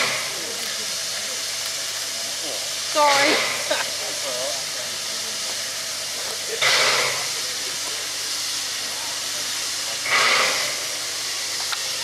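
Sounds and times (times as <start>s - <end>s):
loud bursts of steam: 0.0s - 12.0s
steam locomotive hissing: 0.0s - 12.0s.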